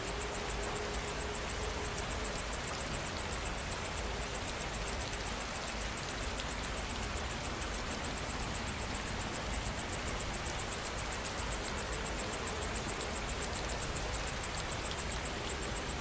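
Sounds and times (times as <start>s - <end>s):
insect chirping rapidly: 0.0s - 16.0s
steady rain falling: 0.0s - 16.0s.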